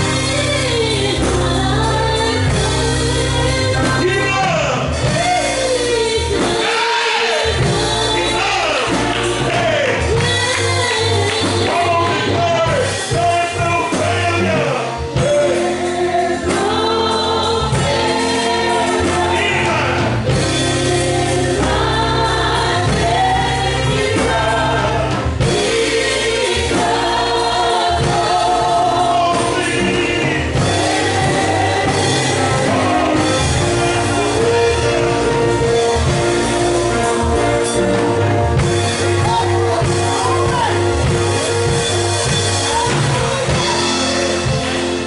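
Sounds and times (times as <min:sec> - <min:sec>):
choir singing gospel music: 0:00.0 - 0:45.0
instrumental accompaniment: 0:00.0 - 0:45.0.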